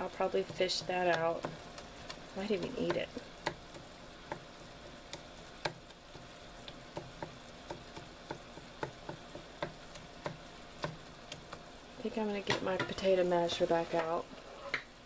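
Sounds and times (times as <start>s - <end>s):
sauce sizzling in a pan: 0.0s - 14.5s.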